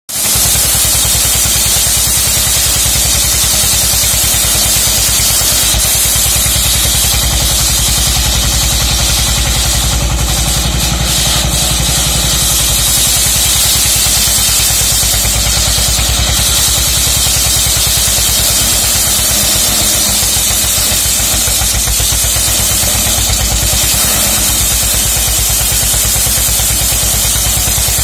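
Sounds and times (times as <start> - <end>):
sawmill engine running: 0.1 - 28.0
spinning saw hiss: 0.1 - 28.0.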